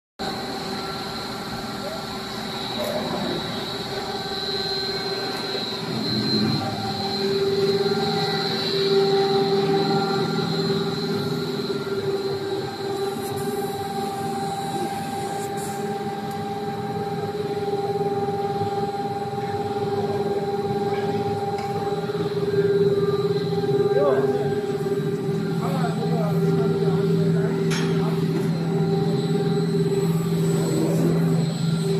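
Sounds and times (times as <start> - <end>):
machine motor humming: 0.2 - 31.9
thin high whine: 0.2 - 31.9.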